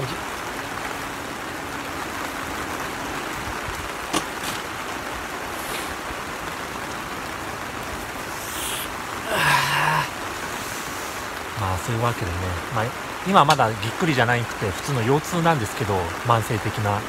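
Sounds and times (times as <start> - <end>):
rain on plastic film: 0.0 - 17.0.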